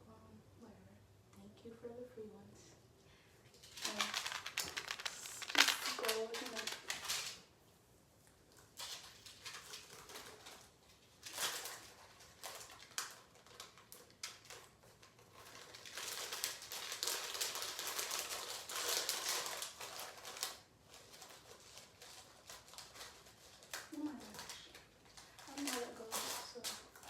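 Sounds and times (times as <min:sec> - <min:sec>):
plastic packaging crinkling: 0:03.5 - 0:07.5, 0:08.5 - 0:27.0.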